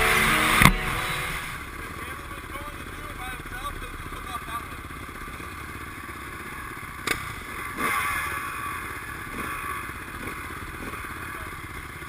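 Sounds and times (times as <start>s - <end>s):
dirt bike engines idling: 0.0s - 12.0s.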